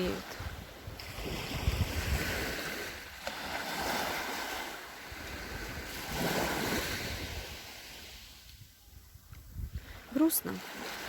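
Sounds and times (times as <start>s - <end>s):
sea waves washing ashore: 0.0s - 8.8s, 9.6s - 11.0s
wind rumbling on microphone: 0.0s - 11.0s.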